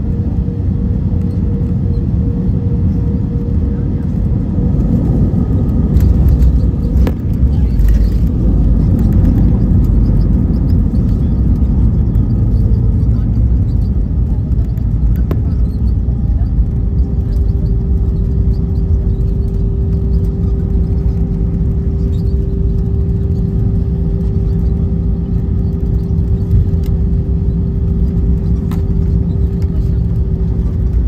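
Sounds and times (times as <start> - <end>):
aircraft cabin engine rumble: 0.0 - 31.0.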